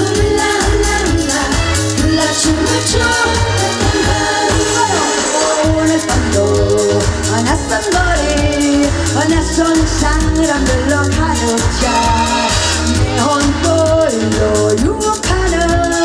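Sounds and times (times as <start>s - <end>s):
band with drum beat: 0.0s - 16.0s
woman singing into a microphone: 0.0s - 16.0s.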